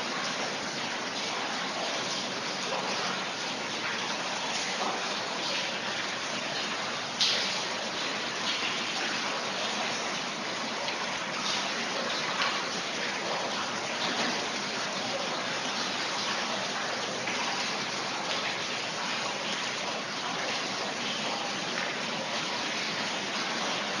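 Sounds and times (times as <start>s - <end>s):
rainwater gushing and splashing: 0.0s - 24.0s.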